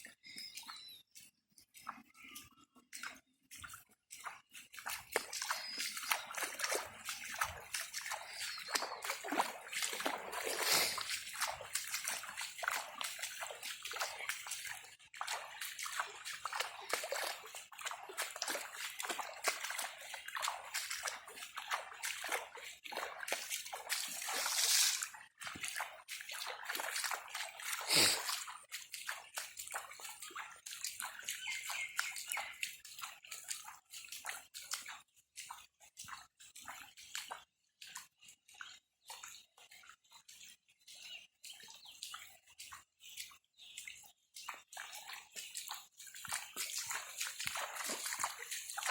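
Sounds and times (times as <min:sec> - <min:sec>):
floodwater sloshing and splashing: 0:00.0 - 0:48.9.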